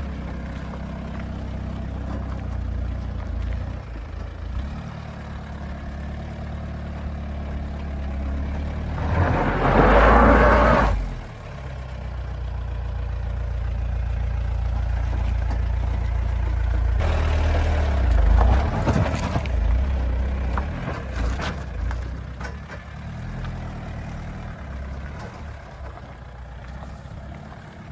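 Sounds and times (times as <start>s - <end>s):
diesel engine rumbling at low speed: 0.0s - 27.9s.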